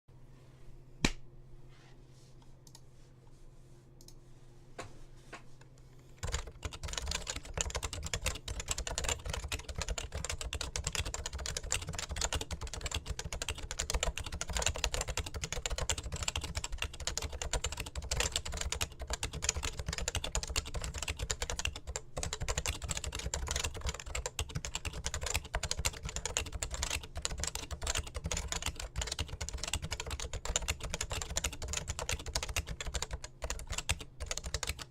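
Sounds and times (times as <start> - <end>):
keyboard typing: 6.2 - 34.9.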